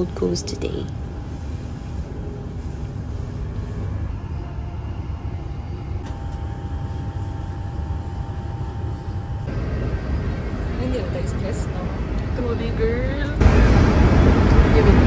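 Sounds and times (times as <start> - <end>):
faint steady whine: 0.0 - 13.6.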